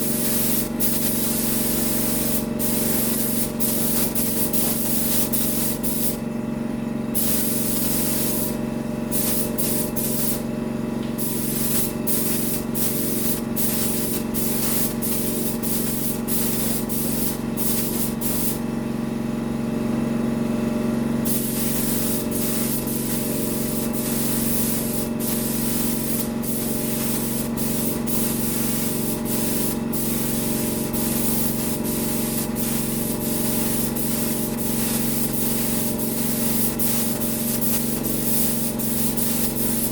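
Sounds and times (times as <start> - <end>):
paint spray gun hissing: 0.0 - 6.2, 7.2 - 10.4, 11.2 - 18.6, 21.2 - 39.9
steady motor hum: 0.0 - 39.9.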